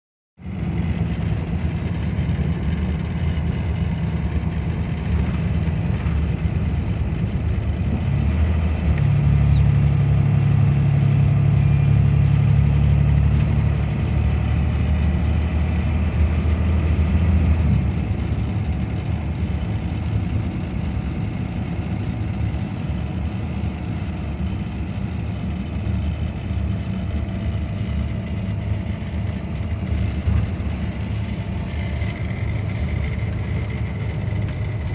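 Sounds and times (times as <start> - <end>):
bus diesel engine running: 0.4 - 34.9.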